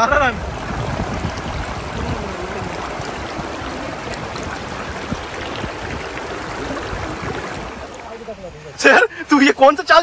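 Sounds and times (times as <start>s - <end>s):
river rushing over rocks: 0.0s - 8.9s.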